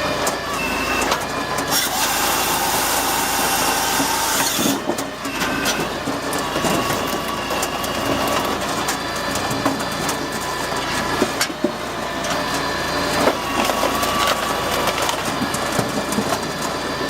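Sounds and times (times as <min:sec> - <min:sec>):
firewood processor droning: 0:00.0 - 0:17.0
wood cracking and splintering: 0:01.0 - 0:17.0.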